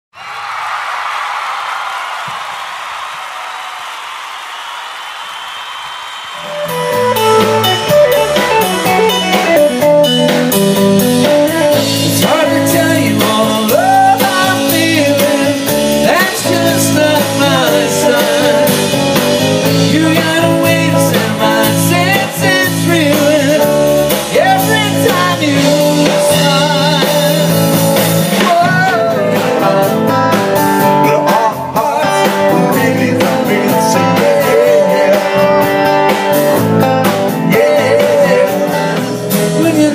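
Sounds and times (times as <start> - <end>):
rock band playing: 6.3 - 39.9.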